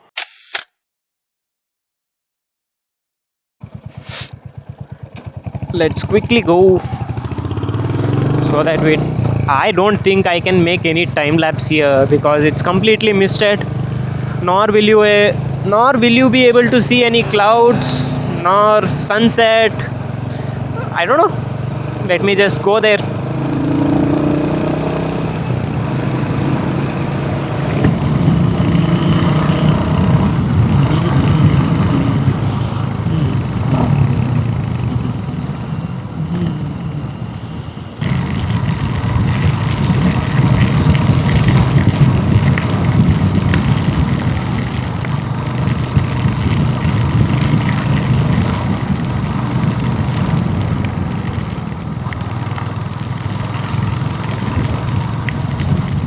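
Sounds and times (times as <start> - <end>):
motorcycle engine running: 3.6 - 56.0.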